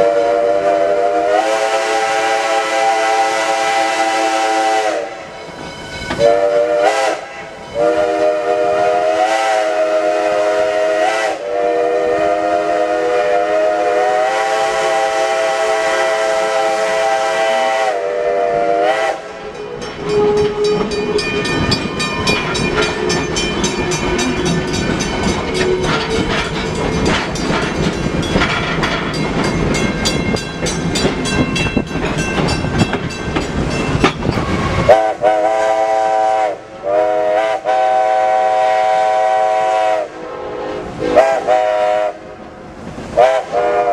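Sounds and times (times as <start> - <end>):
chime steam whistle: 0.0 - 42.4, 43.2 - 43.9
steam locomotive clattering: 0.0 - 43.9.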